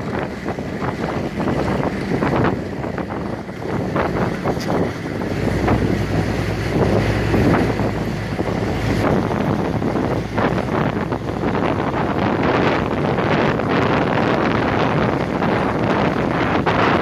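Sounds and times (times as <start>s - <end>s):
jeep engine humming: 0.0s - 17.0s
wind buffeting microphone: 0.0s - 17.0s.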